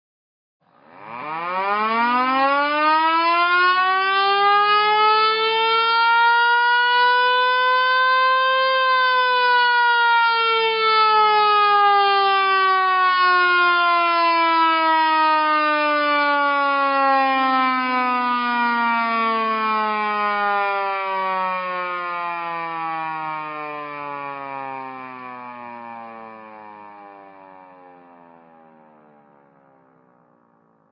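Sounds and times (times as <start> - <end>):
emergency siren wailing: 0.8 - 30.9.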